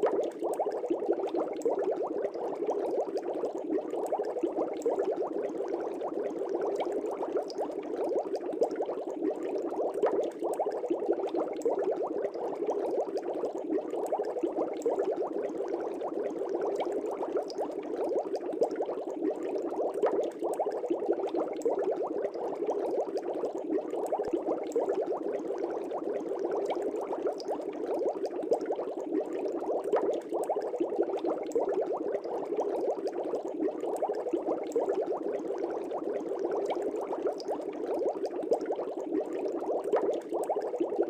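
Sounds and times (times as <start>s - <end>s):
aquarium air bubbles: 0.0s - 41.0s.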